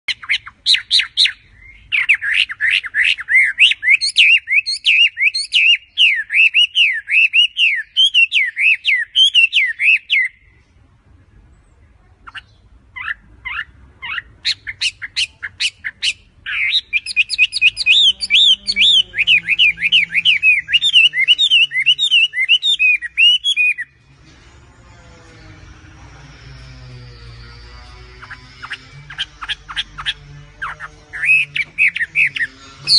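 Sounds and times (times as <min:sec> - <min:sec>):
songbird twittering: 0:00.1 - 0:10.5, 0:11.6 - 0:24.0, 0:26.9 - 0:32.9.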